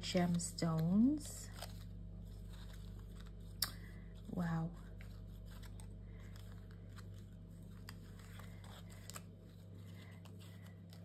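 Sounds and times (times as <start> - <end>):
paper stickers rustling: 0.0 - 11.0
steady low hum: 0.0 - 11.0.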